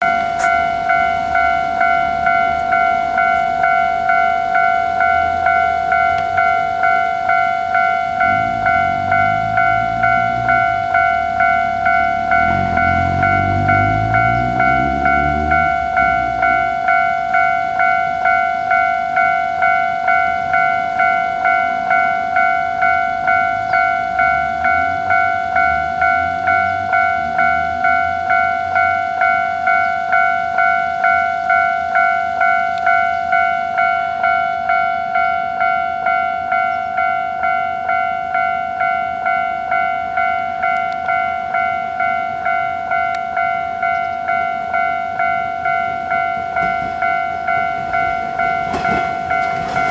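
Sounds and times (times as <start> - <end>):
level-crossing warning bell ringing: 0.0 - 49.9.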